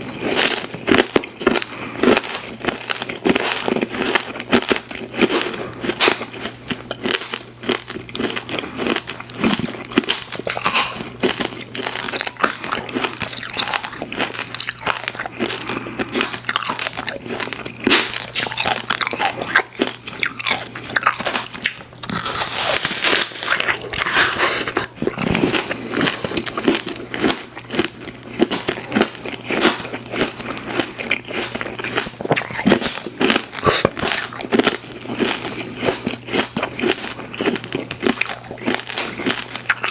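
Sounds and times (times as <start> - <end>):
crunchy chewing of snacks: 0.0 - 39.9.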